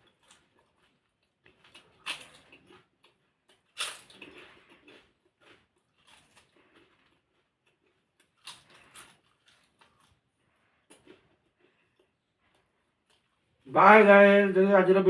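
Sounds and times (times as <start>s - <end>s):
person chewing food: 0.0s - 13.6s.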